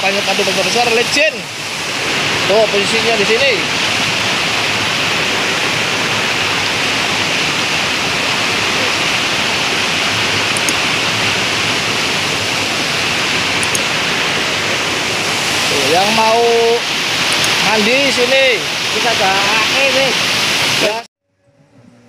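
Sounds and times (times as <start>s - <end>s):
stream rushing over rocks: 0.0s - 21.1s.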